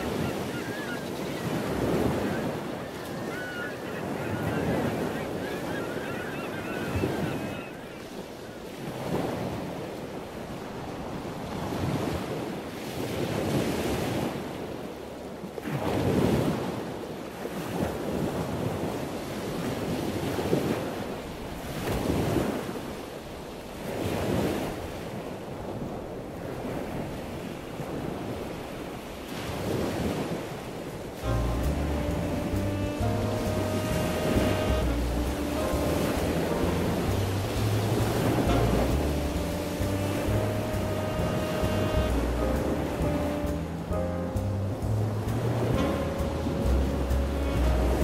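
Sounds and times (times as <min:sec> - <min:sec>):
surf breaking on beach: 0:00.0 - 0:14.7, 0:15.6 - 0:48.0
wind buffeting microphone: 0:00.0 - 0:14.7, 0:23.8 - 0:48.0.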